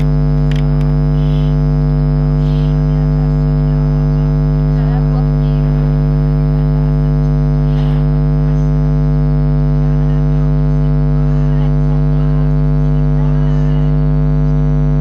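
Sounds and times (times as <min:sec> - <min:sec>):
electrical hum: 0:00.0 - 0:15.0
faint voice: 0:00.0 - 0:15.0.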